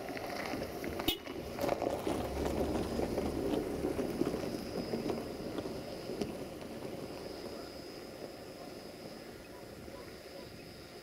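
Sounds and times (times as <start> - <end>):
distant train on rails: 0.0 - 11.0.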